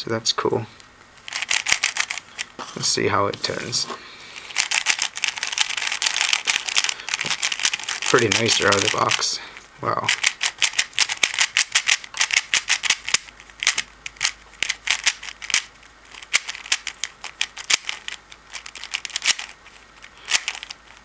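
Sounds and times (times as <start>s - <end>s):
puzzle cube plastic clicks: 1.2s - 2.6s, 4.4s - 9.3s, 10.0s - 21.0s.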